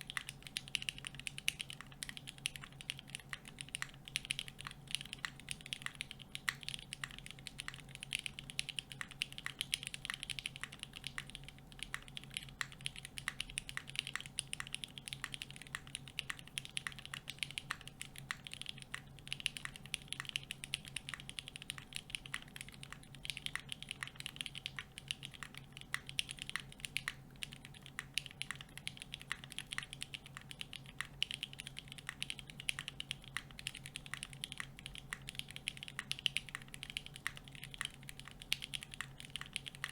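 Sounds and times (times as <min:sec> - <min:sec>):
faint steady hum: 0:00.0 - 0:39.9
typing on mechanical keyboard: 0:00.0 - 0:39.9.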